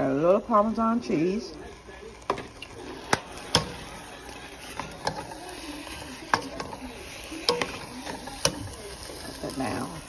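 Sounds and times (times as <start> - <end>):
spoon stirring mashed potatoes: 1.4 - 10.0.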